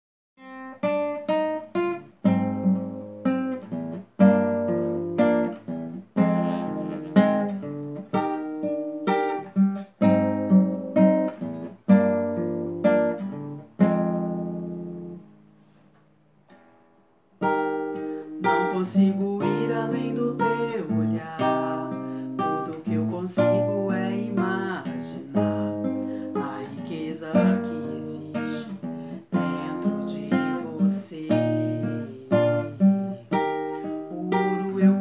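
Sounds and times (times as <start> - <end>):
classical guitar strumming chords: 0.4 - 35.0.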